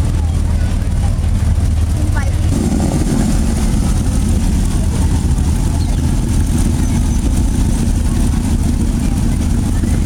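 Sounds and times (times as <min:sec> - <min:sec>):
car engines running: 0:00.0 - 0:10.0.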